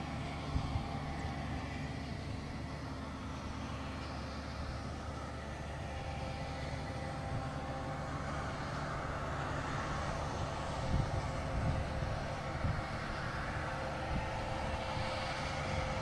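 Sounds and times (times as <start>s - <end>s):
tractor and manure spreader drone: 0.0s - 16.0s.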